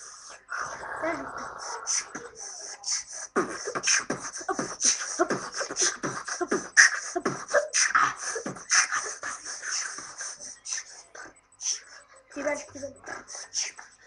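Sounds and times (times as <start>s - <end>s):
person beatboxing: 0.0s - 14.0s.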